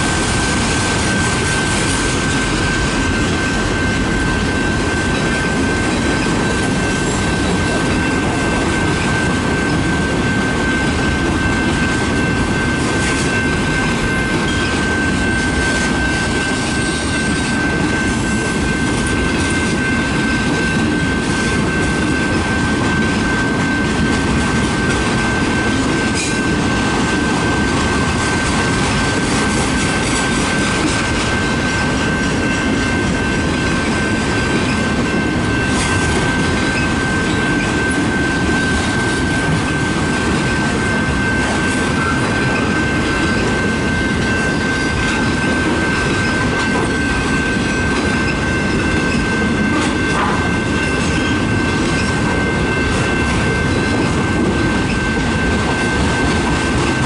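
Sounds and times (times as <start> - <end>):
train wheels rumbling on rail: 0.0 - 57.0
high-pitched tone: 1.1 - 57.0.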